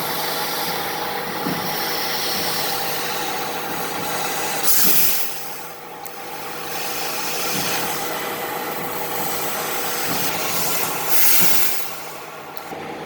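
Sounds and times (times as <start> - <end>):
loud hiss: 0.0 - 12.7
laser cutting machine humming: 0.0 - 13.0.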